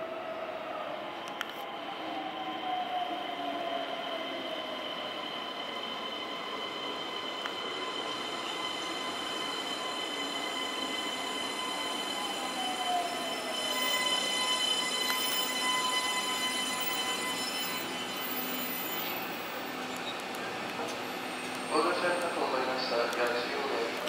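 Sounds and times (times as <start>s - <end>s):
electric train inverter whine: 0.3s - 24.0s.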